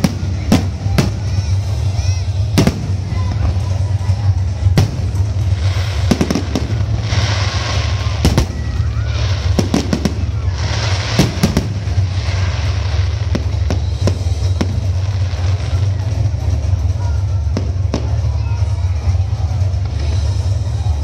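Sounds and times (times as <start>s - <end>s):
crackling hiss: 0.0s - 21.0s
fireworks bursting bangs: 0.0s - 21.0s
low rumble: 0.0s - 21.0s.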